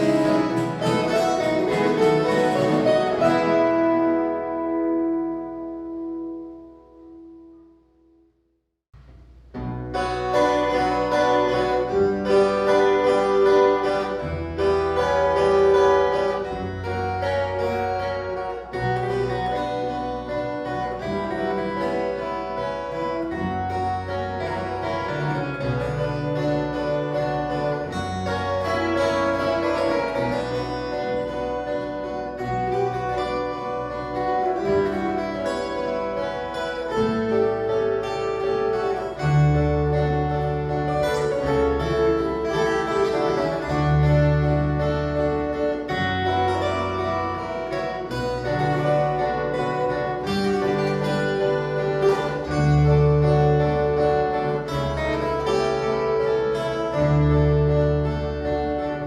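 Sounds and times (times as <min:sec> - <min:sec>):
plucked steel string ensemble: 0:00.0 - 0:05.9, 0:09.0 - 0:59.0.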